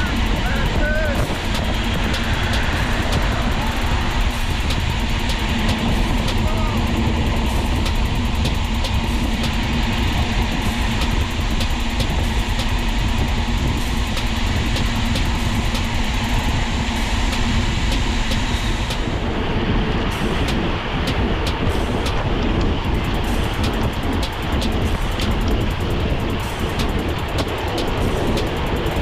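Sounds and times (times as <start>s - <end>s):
bicycle ticking: 0.0s - 19.2s, 20.0s - 29.0s
road rumble: 0.0s - 29.0s
wind rushing over microphone: 0.0s - 29.0s.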